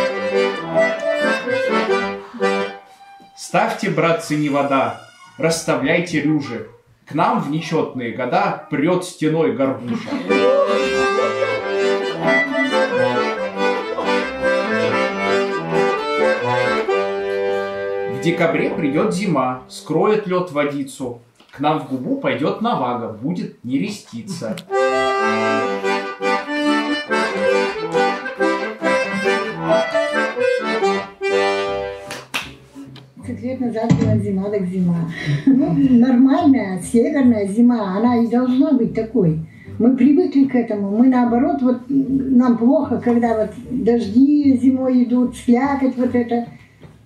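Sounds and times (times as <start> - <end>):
accordion playing: 0.0 - 5.7, 10.1 - 20.3, 24.3 - 46.6.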